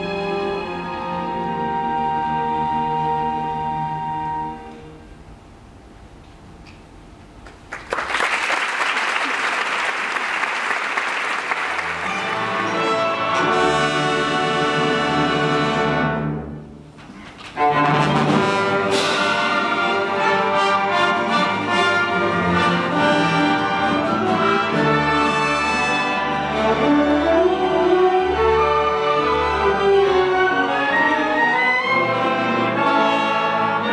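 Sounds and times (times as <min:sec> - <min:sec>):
orchestra playing film music: 0:00.0 - 0:05.3, 0:11.0 - 0:33.9.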